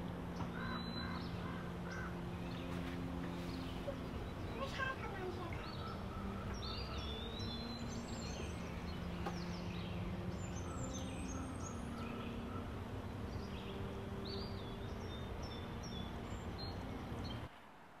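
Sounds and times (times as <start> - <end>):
birds chirping and singing: 0.0 - 17.5
low background noise: 0.0 - 18.0.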